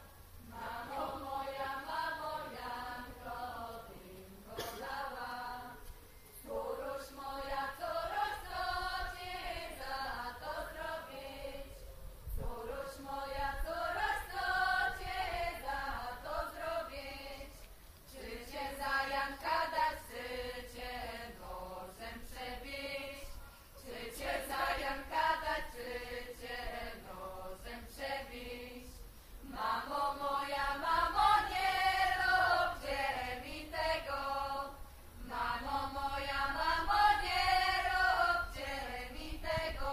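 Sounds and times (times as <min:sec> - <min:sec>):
women singing in harmony: 0:00.0 - 0:39.9.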